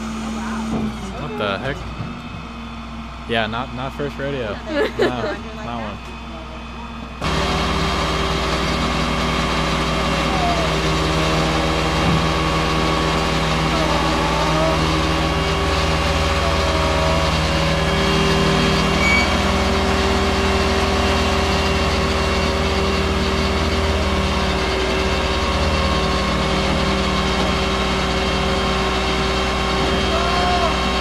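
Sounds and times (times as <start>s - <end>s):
constant whine: 0.0s - 31.0s
low hum: 0.0s - 31.0s
truck engine running: 0.0s - 31.0s.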